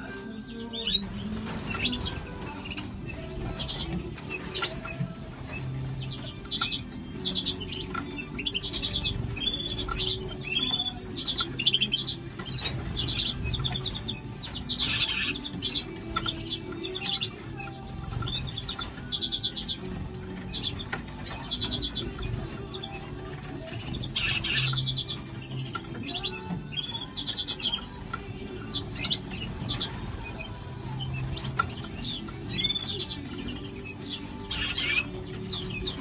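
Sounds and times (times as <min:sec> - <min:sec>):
birds chirping and calling: 0:00.0 - 0:36.0
wings flapping: 0:00.8 - 0:36.0.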